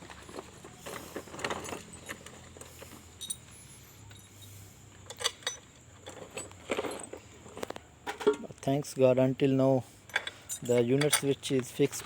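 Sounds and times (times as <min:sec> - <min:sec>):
metallic clinks of tools and engine parts: 0:00.0 - 0:08.5, 0:10.0 - 0:12.0.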